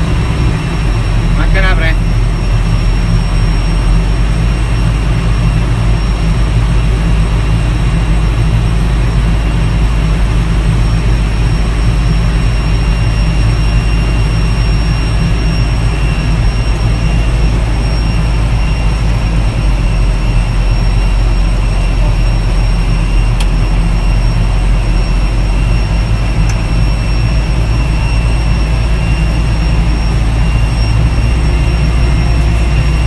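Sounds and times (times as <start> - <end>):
steady high whine: 0.0 - 33.0
tractor engine running under load: 0.0 - 33.0.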